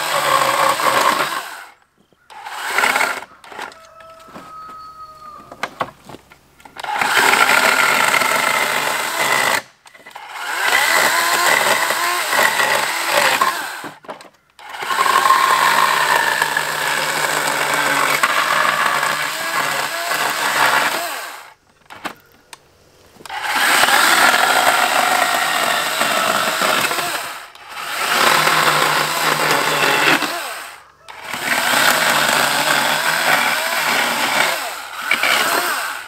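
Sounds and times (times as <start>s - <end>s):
chainsaw cutting wood: 0.0s - 4.0s, 6.8s - 14.0s, 14.6s - 21.6s, 23.3s - 36.0s.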